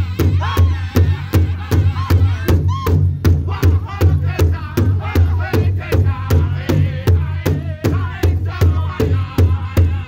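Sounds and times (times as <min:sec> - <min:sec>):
large hide drum beating: 0:00.0 - 0:10.0.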